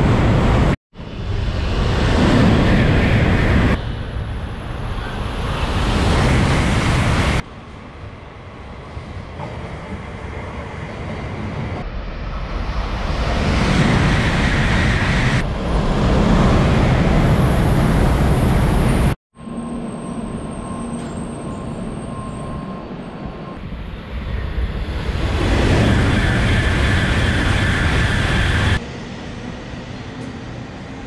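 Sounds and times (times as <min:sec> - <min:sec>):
train rushing through station: 0:00.0 - 0:31.0.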